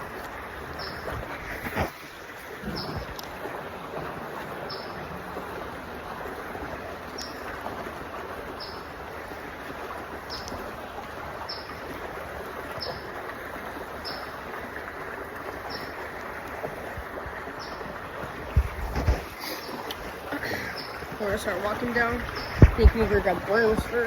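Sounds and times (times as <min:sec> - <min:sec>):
creek water flowing: 0:00.0 - 0:24.0.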